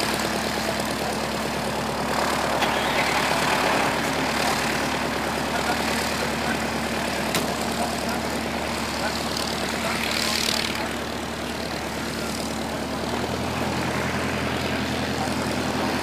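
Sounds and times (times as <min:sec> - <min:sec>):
biplane engine running: 0:00.0 - 0:16.0.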